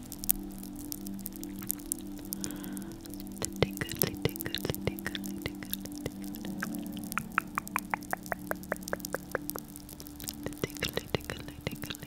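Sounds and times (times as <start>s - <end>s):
crackling clicks and pops: 0.0s - 12.0s
low background music: 0.0s - 12.0s.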